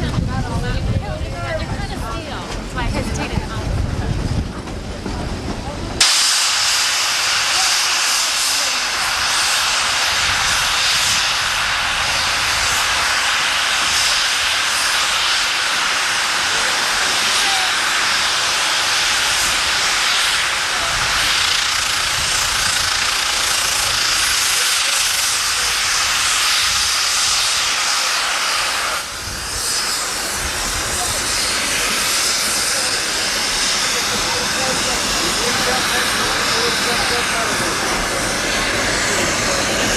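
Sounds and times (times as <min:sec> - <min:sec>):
low train rumble: 0:00.0 - 0:39.9
steam train rushing hiss: 0:00.5 - 0:39.9.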